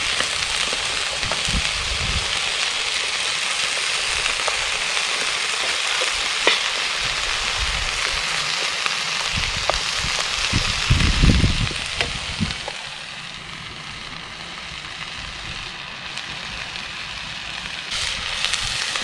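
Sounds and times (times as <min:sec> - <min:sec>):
food sizzling in a pan: 0:00.0 - 0:19.0
pops and crackles of frying: 0:00.0 - 0:19.0.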